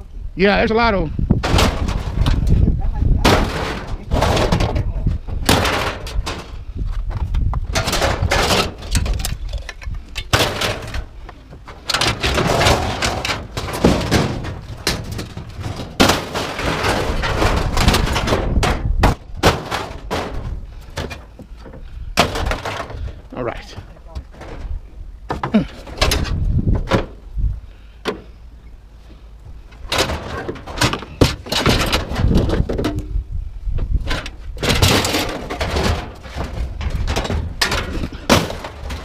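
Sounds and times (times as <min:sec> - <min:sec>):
scrap metal bangs and clanks: 0:01.4 - 0:02.6, 0:03.2 - 0:06.6, 0:07.7 - 0:27.2, 0:29.8 - 0:33.2, 0:34.0 - 0:39.0.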